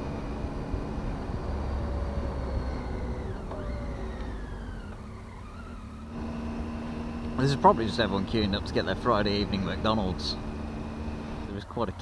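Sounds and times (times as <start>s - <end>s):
low wind rumble: 0.0s - 12.0s
motorcycle engine running: 0.0s - 12.0s.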